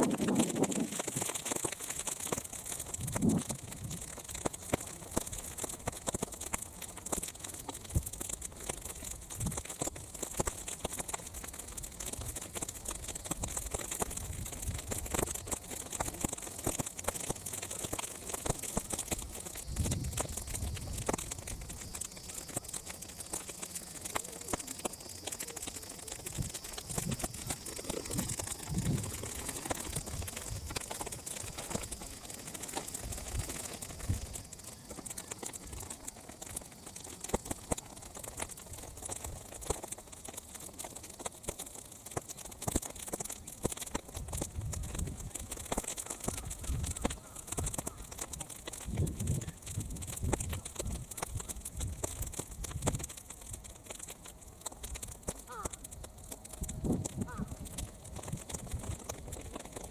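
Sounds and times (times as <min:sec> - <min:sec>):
wind rumbling on microphone: 0:00.0 - 0:39.8, 0:42.8 - 0:59.9
fire crackling and popping: 0:00.0 - 0:59.9.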